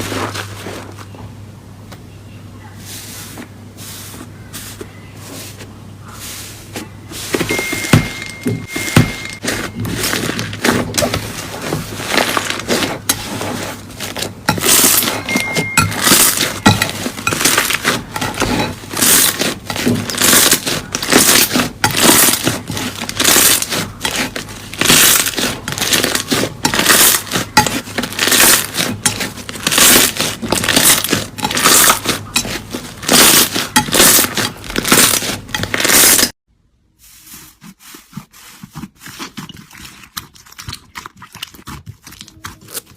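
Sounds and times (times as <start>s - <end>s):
slime squelching by hand: 2.8s - 36.3s, 37.0s - 42.9s.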